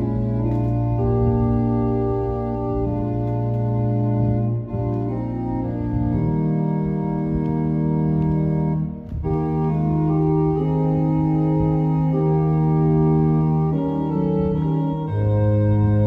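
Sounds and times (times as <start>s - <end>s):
organ playing sustained chords: 0.0s - 16.0s.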